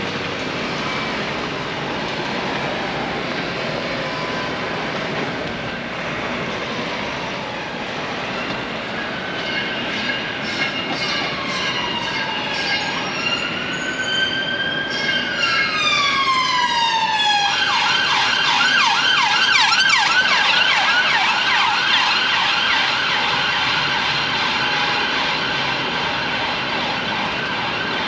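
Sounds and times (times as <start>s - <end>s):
emergency siren wailing and yelping: 0.6s - 6.0s, 6.6s - 28.0s.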